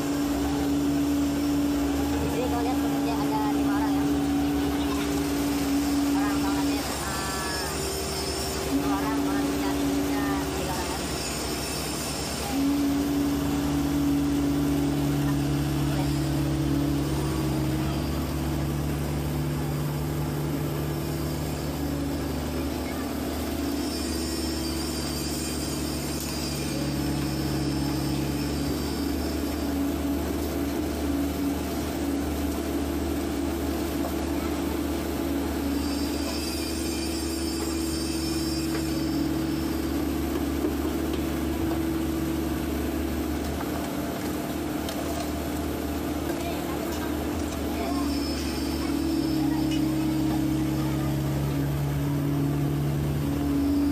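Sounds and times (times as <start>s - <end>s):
excavator diesel engine running: 0.0s - 53.9s
hydraulic whine: 0.0s - 53.9s.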